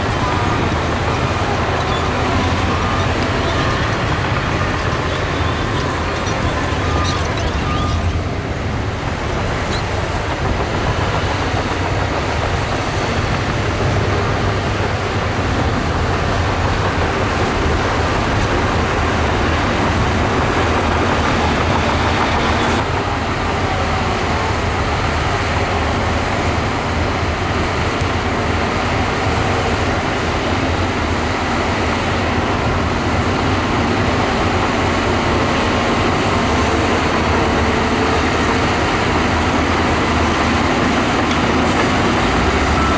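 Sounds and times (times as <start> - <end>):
bulldozer diesel engine rumbling: 0.0 - 42.9.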